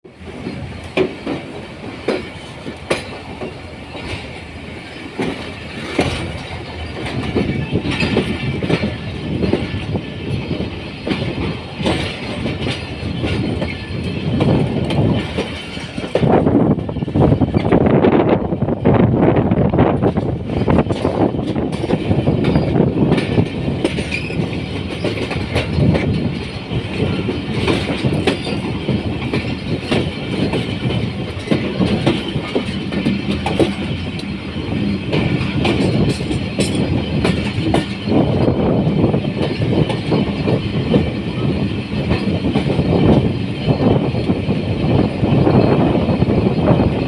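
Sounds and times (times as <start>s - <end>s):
train wheels clattering over rail joints: 0.1s - 47.0s.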